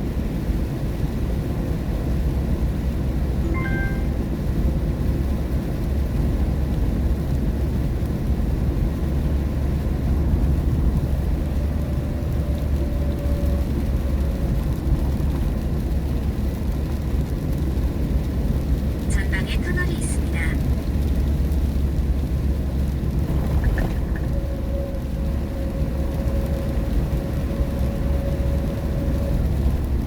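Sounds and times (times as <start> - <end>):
road and tyre noise in car: 0.0 - 30.0.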